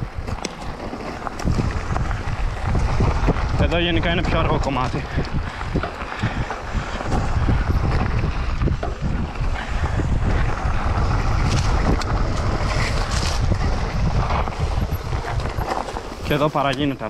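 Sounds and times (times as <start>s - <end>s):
bike knocks and rattles: 0.0s - 17.0s
wind buffeting microphone: 0.0s - 17.0s.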